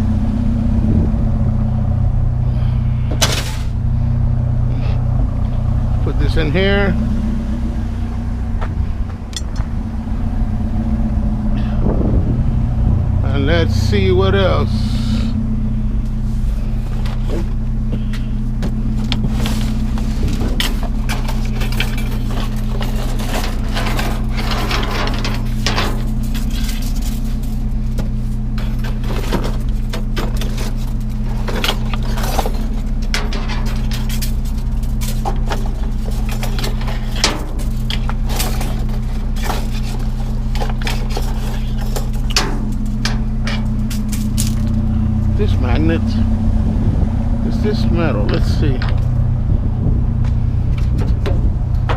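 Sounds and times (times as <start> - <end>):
engine idling hum: 0.0 - 51.9.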